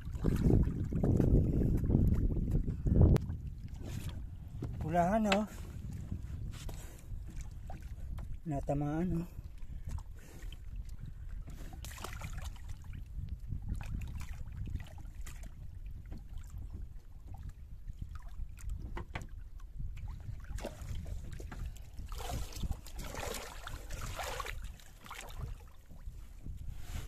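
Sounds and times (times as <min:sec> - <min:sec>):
water splashing and sloshing: 0:00.0 - 0:27.0
wind rumble on microphone: 0:00.0 - 0:27.0.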